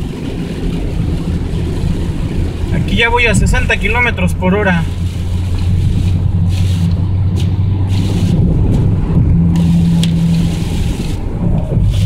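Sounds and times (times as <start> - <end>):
engine and tyres on wet road: 0.0 - 12.0
rain hitting windshield: 0.0 - 12.0.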